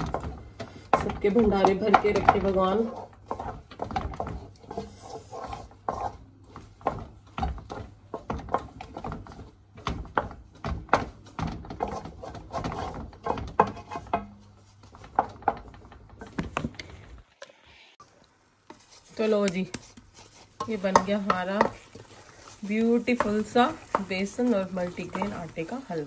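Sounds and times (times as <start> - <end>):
wooden spoon scraping metal pot: 0.0 - 16.7, 18.7 - 26.0.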